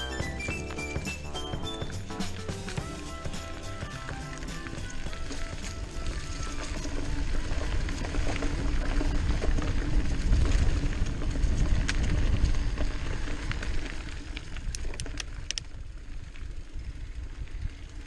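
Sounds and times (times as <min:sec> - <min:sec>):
bike tyre rattle: 0:00.0 - 0:18.0
wind buffeting microphone: 0:01.6 - 0:18.0.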